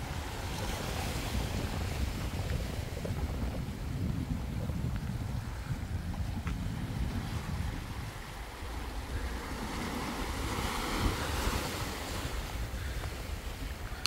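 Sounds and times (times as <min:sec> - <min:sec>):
waves washing over rocks: 0:00.0 - 0:14.0
wind buffeting microphone: 0:00.0 - 0:14.0.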